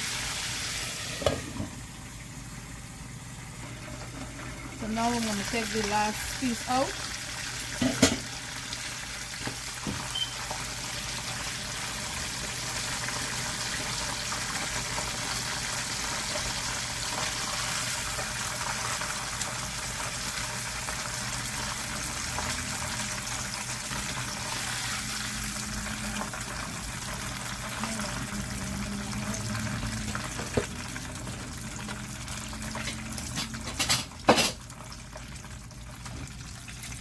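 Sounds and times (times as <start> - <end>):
oil sizzling in a frying pan: 0.0 - 37.0.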